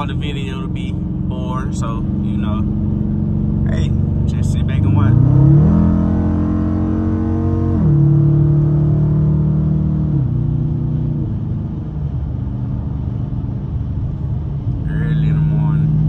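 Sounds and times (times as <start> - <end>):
car exhaust drone with gear shifts: 0.0 - 16.0.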